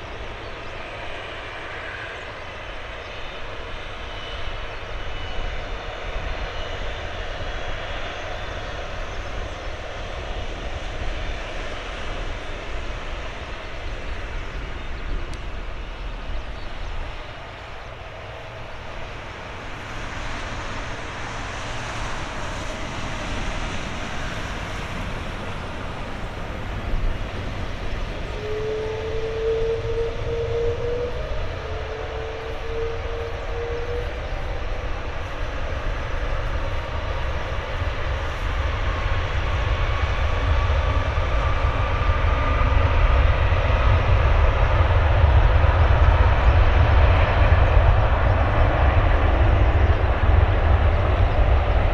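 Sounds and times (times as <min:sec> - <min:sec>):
jet engine low rumble: 0:00.0 - 0:51.9
jet engines whine rising: 0:00.0 - 0:51.9.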